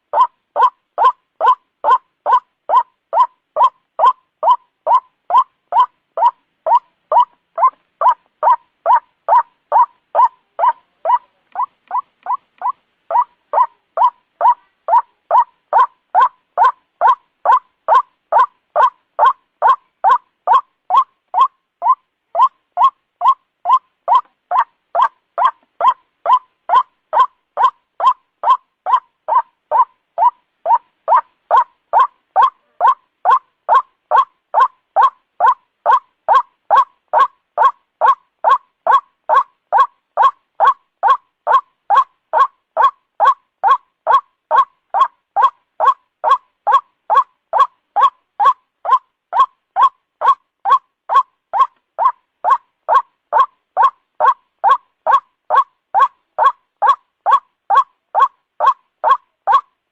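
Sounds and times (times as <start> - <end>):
waterhen calling: 0.0 - 59.7.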